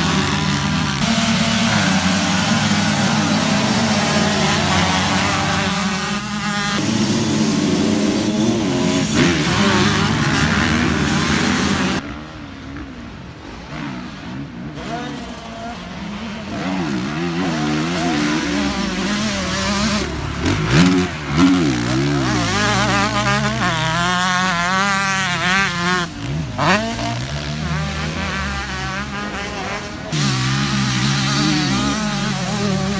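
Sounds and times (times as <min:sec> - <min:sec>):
dirt bike engine revving: 0:00.0 - 0:12.3, 0:13.7 - 0:32.9.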